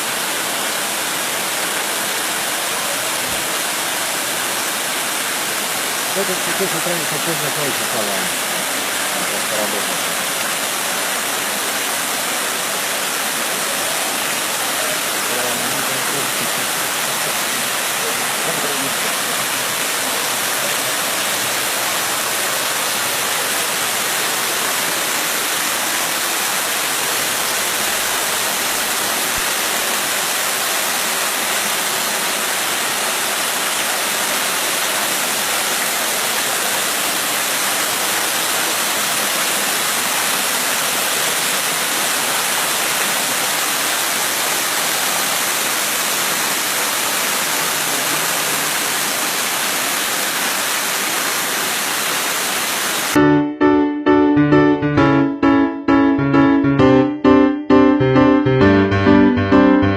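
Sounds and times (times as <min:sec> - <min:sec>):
waterfall rushing: 0:00.0 - 0:53.3.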